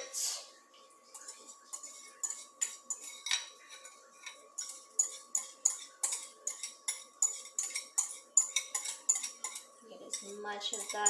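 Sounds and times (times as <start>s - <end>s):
spoon scraping a container: 1.1s - 11.0s.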